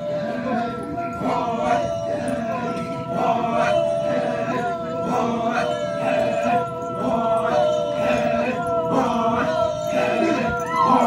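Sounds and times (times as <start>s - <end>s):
group chanting in unison: 0.0s - 11.0s.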